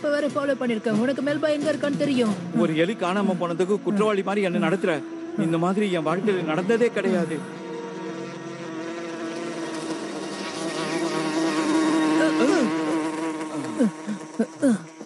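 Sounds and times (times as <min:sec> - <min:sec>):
large insect wings buzzing: 0:00.0 - 0:15.0.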